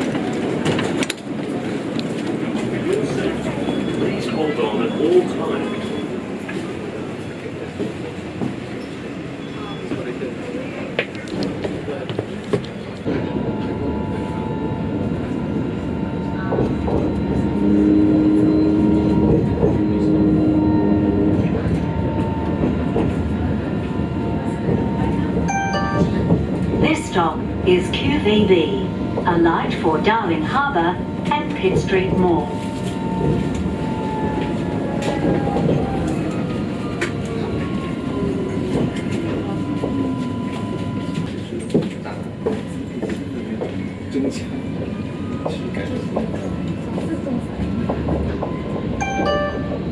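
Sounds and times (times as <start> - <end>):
tram rumble: 0.0 - 49.9.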